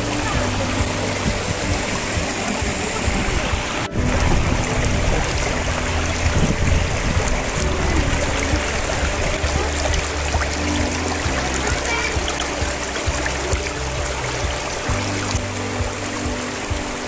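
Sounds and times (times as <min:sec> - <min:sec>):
stream splashing over stones: 0:00.0 - 0:17.0.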